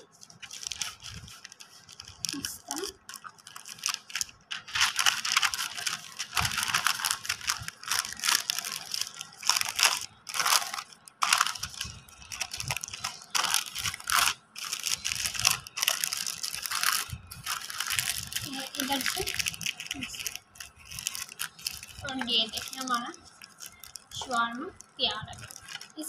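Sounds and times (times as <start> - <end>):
wrapping paper crinkling: 0.0 - 26.0.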